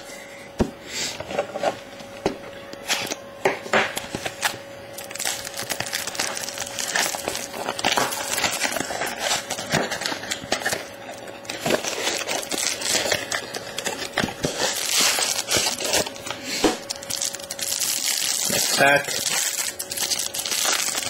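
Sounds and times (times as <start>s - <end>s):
foil wrapper crinkling: 4.1s - 21.0s.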